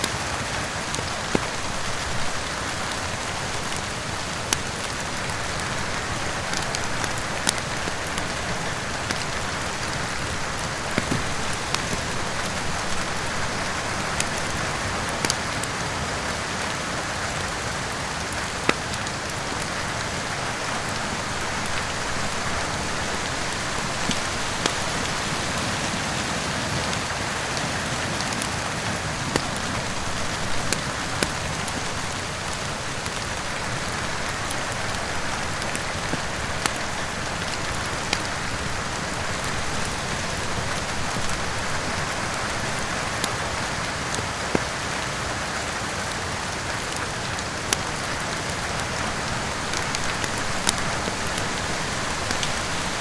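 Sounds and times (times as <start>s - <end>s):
heavy rain hissing: 0.0s - 53.0s
wood fire crackling and popping: 0.0s - 53.0s.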